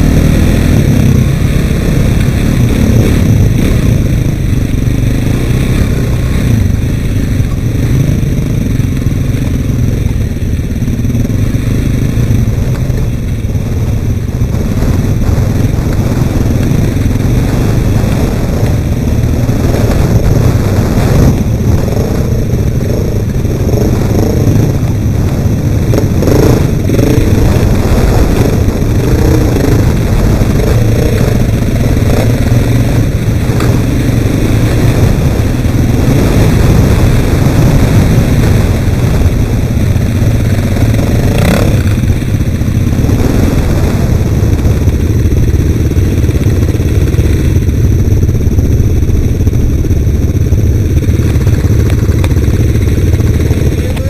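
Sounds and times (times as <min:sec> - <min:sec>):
atv engines revving: 0:00.0 - 0:54.0.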